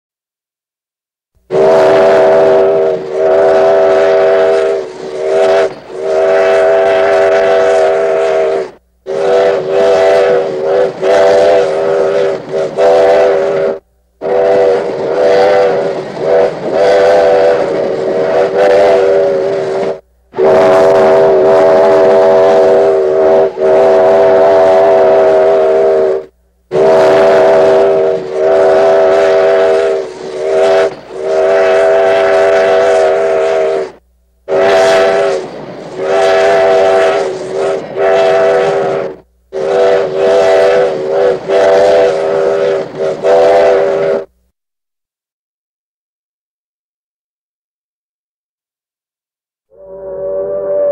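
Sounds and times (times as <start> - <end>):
steam locomotive whistle blasts: 1.4 - 44.4, 49.7 - 50.9.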